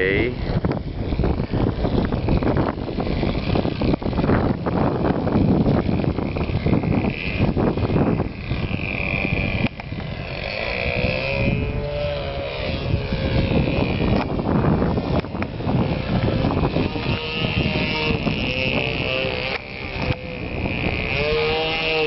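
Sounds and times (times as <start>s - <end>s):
model plane engine whine: 0.0s - 22.0s
wind buffeting microphone: 0.0s - 22.0s.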